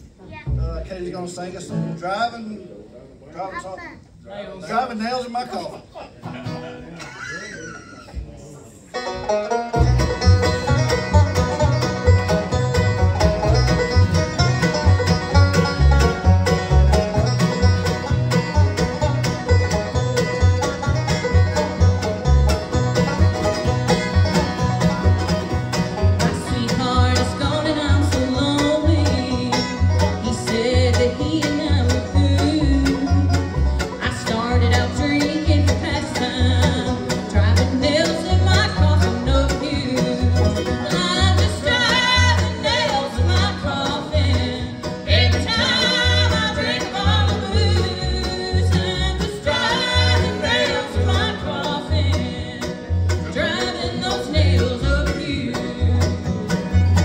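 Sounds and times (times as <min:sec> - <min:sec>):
picked banjo: 0:00.0 - 0:02.4, 0:05.5 - 0:57.0
bluegrass band playing: 0:00.0 - 0:02.7, 0:03.4 - 0:57.0.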